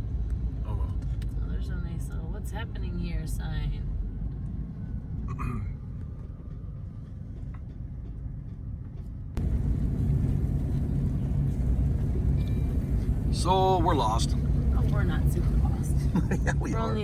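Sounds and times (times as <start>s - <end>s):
truck engine and tyre rumble: 0.0s - 17.0s.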